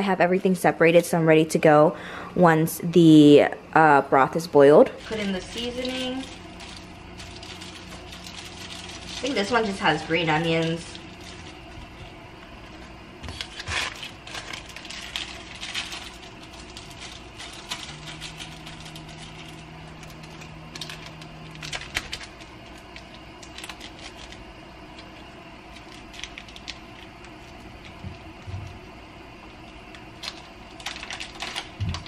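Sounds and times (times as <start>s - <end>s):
low steady hum: 0.0s - 32.0s
plastic packets crinkling: 5.0s - 28.4s, 29.4s - 32.0s.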